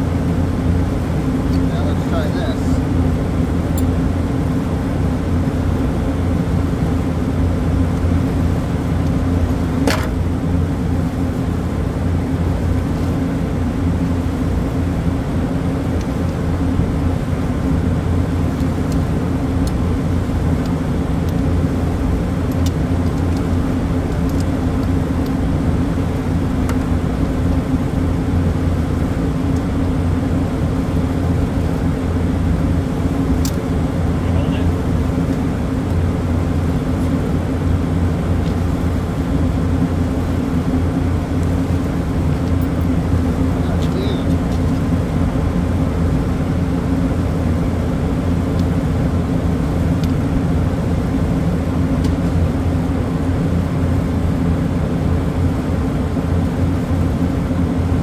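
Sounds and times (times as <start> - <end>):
machinery humming: 0.0 - 58.0.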